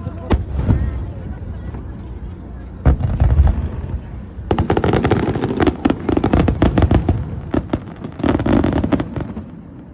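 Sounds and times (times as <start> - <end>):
fireworks banging and crackling: 0.0 - 9.9.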